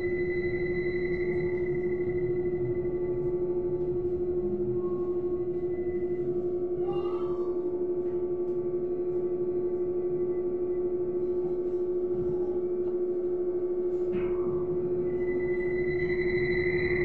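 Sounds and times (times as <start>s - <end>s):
trolleybus electrical hum: 0.0s - 17.0s.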